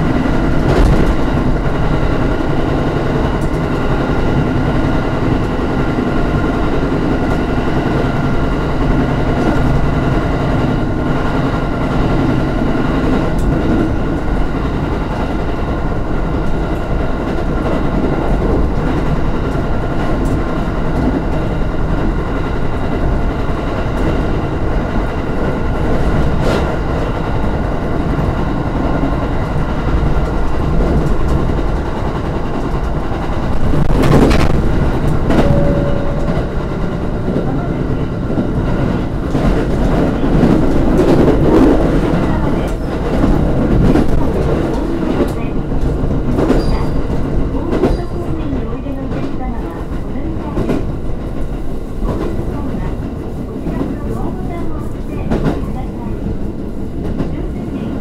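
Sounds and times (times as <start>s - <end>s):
electric train whine: 0.0s - 49.0s
wheel and track rumble: 0.0s - 58.0s.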